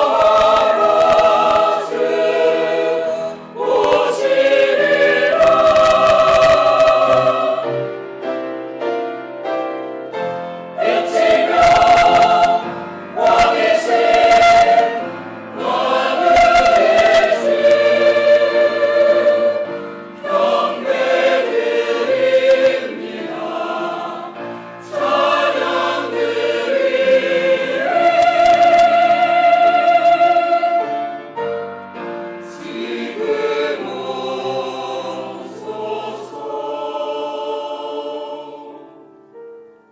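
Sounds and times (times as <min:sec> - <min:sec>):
choir singing: 0:00.0 - 0:08.0, 0:10.7 - 0:31.5, 0:32.1 - 0:39.3
instrumental accompaniment: 0:00.0 - 0:39.9.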